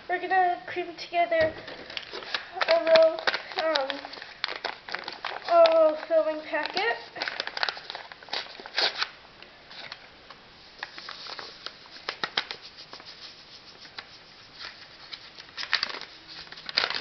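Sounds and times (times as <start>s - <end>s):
packet rustling and crinkling: 1.6s - 10.0s, 10.8s - 17.0s.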